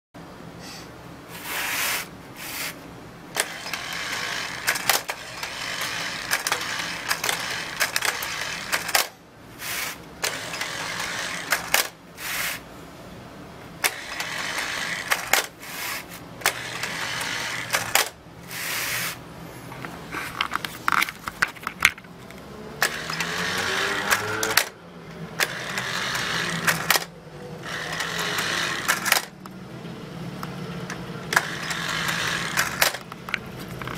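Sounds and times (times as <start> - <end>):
small electric motor and gears whirring: 1.4 - 12.7, 13.8 - 19.2, 22.2 - 29.6, 30.4 - 33.9.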